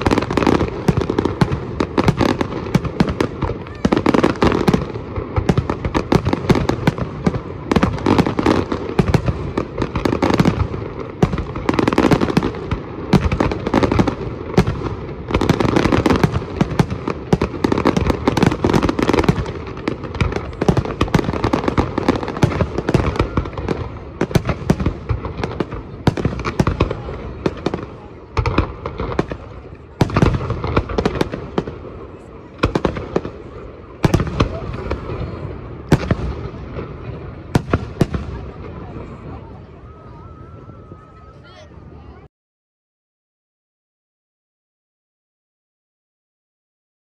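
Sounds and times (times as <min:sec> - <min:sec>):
fireworks bangs and crackles: 0:00.0 - 0:42.3.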